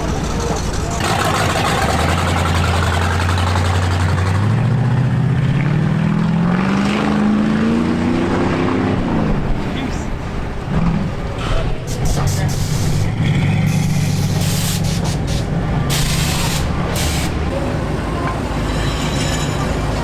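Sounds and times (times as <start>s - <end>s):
truck engine revving: 0.0s - 9.7s, 10.5s - 20.0s.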